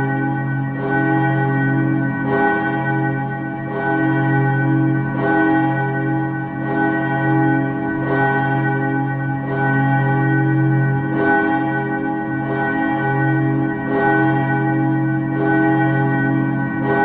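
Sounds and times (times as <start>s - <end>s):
church bell ringing: 0.0s - 17.0s.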